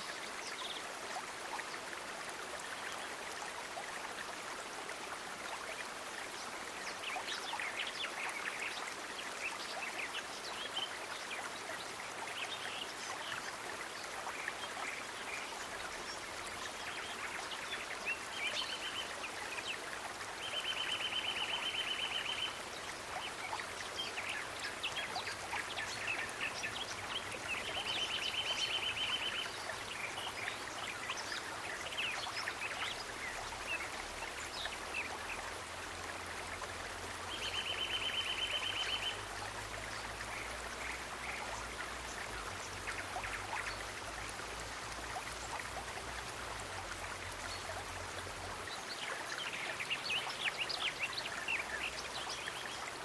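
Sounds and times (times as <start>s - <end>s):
stream running water: 0.0s - 53.0s.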